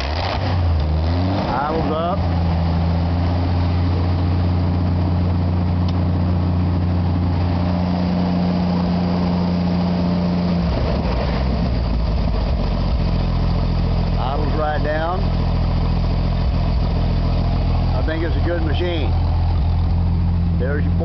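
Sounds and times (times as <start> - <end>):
welder engine idling: 0.0 - 21.0.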